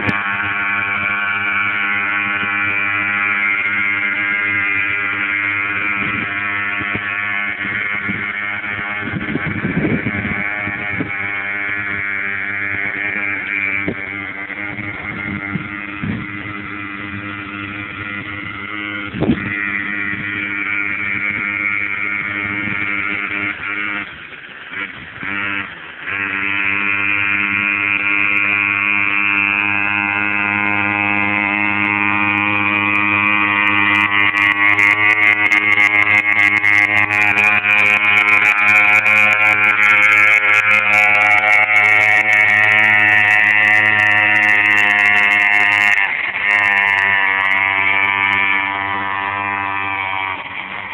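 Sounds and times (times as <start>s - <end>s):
two-stroke engine running: 0.0s - 50.9s.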